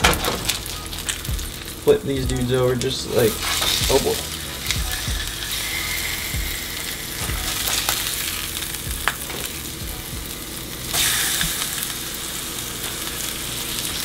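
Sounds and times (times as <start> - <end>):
fish sizzling in frying pan: 0.0 - 14.0.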